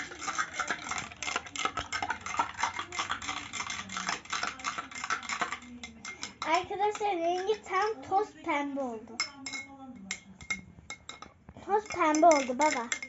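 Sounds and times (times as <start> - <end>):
spoon clinking against glass: 0.0 - 8.1, 9.1 - 13.0.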